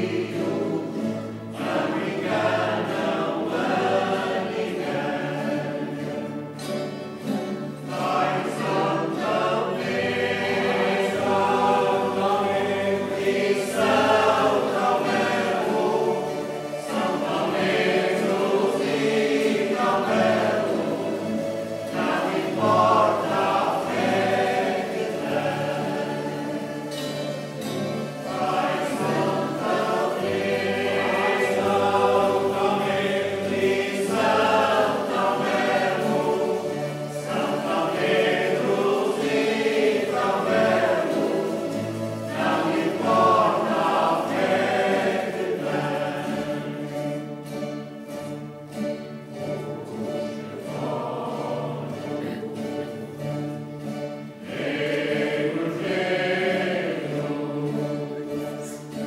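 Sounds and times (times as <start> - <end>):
choir singing with instruments: 0.0 - 59.0.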